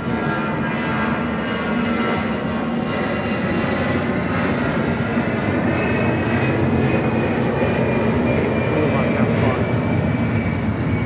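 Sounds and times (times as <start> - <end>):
airplane engines running: 0.0 - 11.0.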